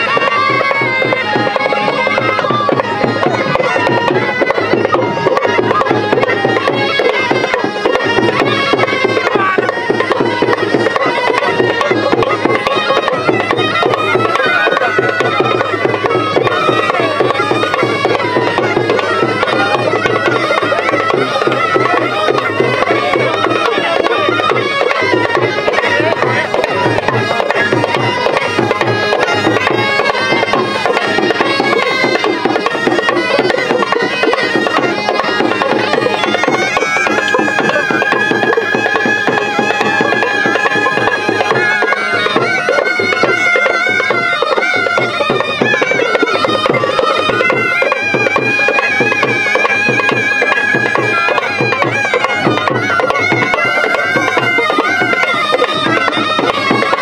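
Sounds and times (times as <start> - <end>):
drum beat: 0.0 - 57.0
gourd pipes playing folk melody: 0.0 - 57.0.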